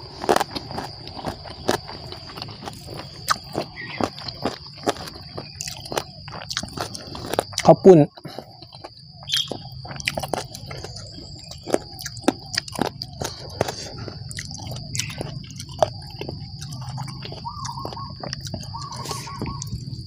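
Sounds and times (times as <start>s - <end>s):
high insect drone: 0.0s - 20.0s
wet chewing and lip smacks: 0.0s - 20.0s.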